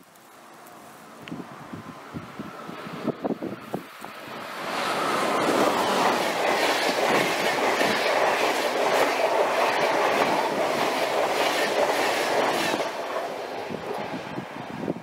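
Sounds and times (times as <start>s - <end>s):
train passing at speed: 0.2s - 15.0s.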